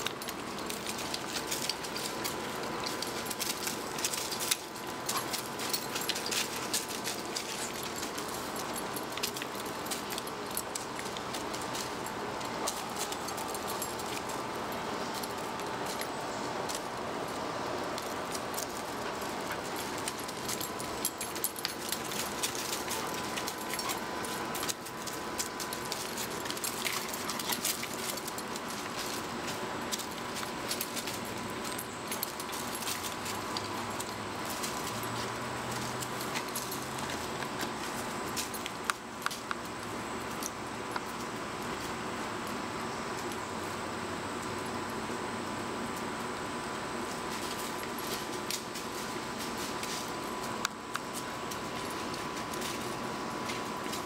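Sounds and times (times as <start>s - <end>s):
rustling of puppies moving: 0.0s - 43.8s, 44.4s - 54.0s
collar tags jingling: 0.0s - 45.2s, 46.8s - 54.0s.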